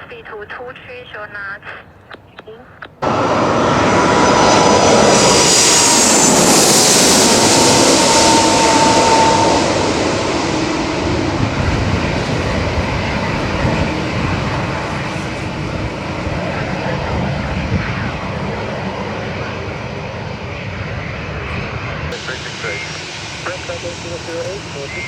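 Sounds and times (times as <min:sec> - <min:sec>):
jet airliner roar with fan whine: 0:00.0 - 0:25.0.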